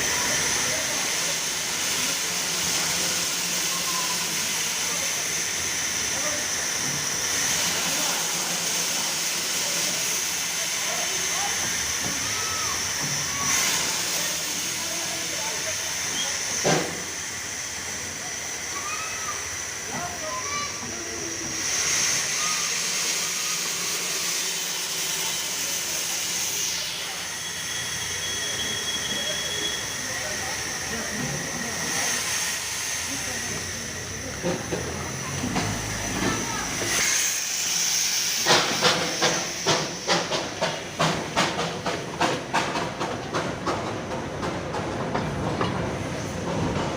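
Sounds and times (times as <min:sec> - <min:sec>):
steam locomotive venting steam: 0:00.0 - 0:46.9.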